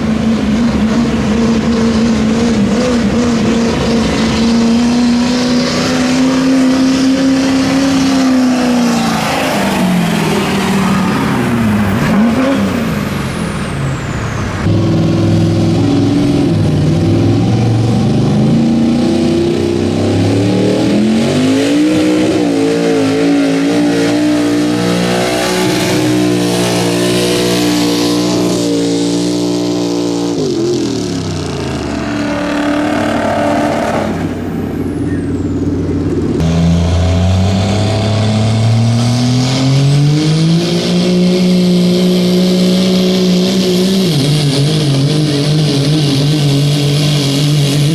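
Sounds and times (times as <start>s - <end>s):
truck engines revving high: 0.0s - 47.9s.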